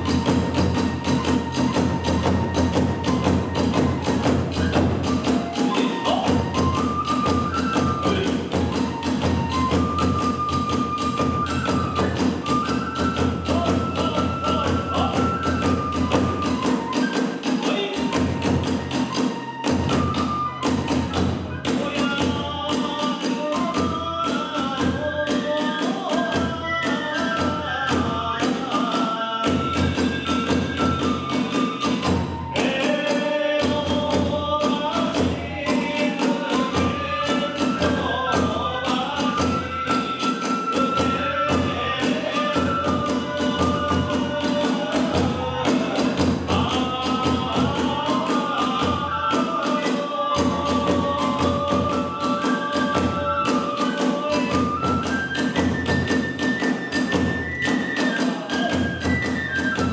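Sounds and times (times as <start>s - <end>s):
bamboo flute melody: 0.0s - 59.9s
rapid drum strokes: 0.0s - 59.9s.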